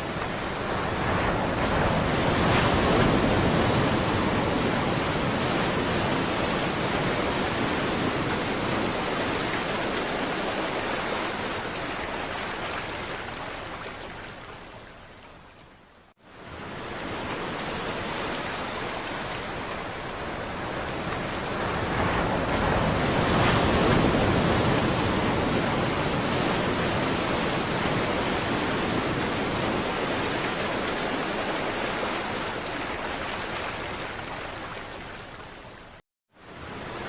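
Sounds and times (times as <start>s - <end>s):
sea waves breaking on shore: 0.0s - 37.0s.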